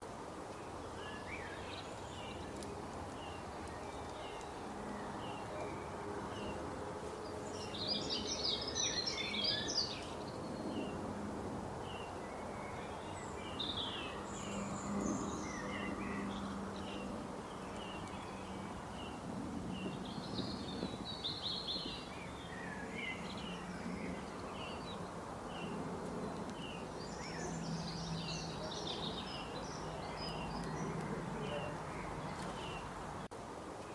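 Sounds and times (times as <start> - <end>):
wild birds chirping: 0.0 - 33.9.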